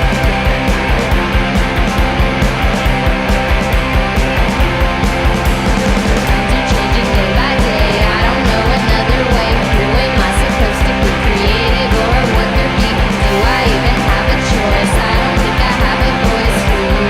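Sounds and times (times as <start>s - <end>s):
electric guitar: 0.0s - 17.0s
fast drum beat: 0.0s - 17.0s.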